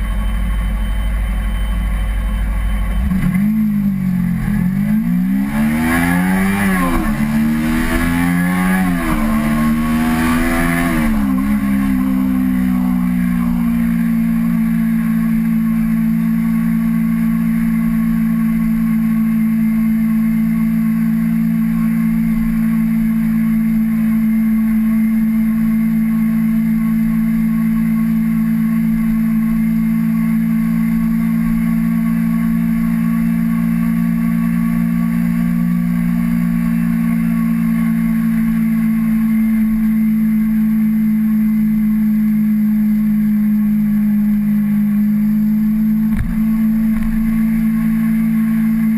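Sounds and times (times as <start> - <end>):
motorcycle engine at high revs: 2.8 - 48.9.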